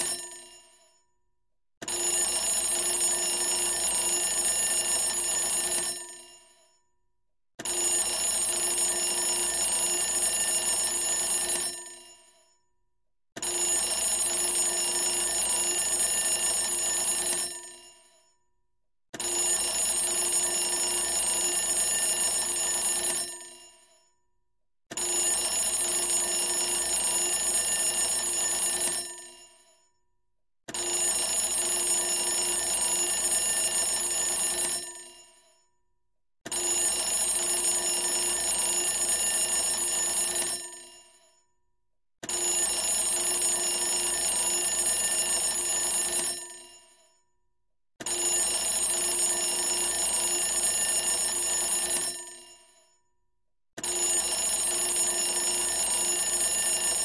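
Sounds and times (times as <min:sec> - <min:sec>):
alarm clock ringing: 0:00.0 - 0:00.8, 0:01.8 - 0:06.6, 0:07.6 - 0:12.3, 0:13.4 - 0:18.1, 0:19.2 - 0:23.9, 0:25.0 - 0:29.6, 0:30.7 - 0:35.4, 0:36.5 - 0:41.2, 0:42.2 - 0:46.9, 0:48.0 - 0:52.7, 0:53.8 - 0:57.0.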